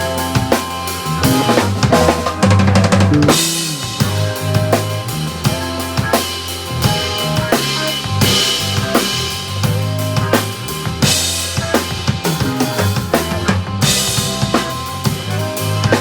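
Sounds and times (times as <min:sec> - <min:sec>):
bass notes from backing track: 0:00.0 - 0:16.0
drum kit groove: 0:00.0 - 0:16.0.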